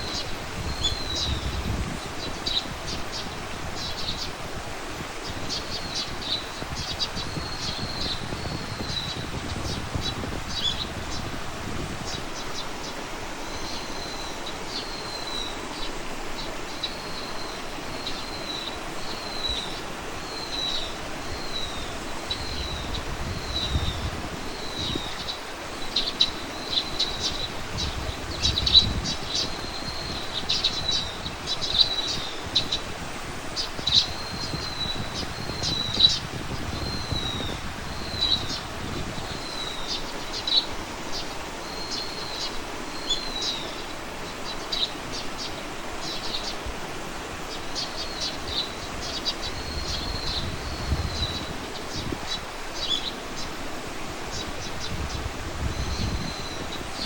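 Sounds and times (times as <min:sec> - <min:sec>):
low rumble of wind: 0:00.0 - 0:57.0
small birds chirping: 0:00.0 - 0:57.0
steady outdoor hiss: 0:00.0 - 0:57.0.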